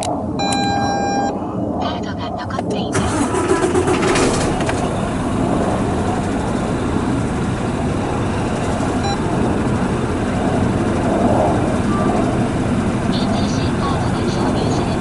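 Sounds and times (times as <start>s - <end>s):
diesel engine idling: 2.9s - 15.0s.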